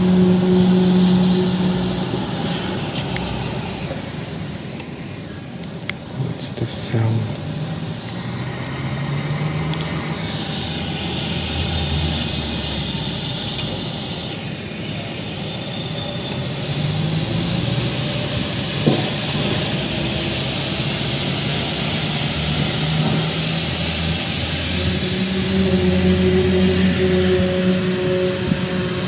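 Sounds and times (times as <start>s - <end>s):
droning and hissing noise: 0.0s - 29.0s
high falling whine: 0.0s - 29.0s
wavering low hums: 0.0s - 29.0s.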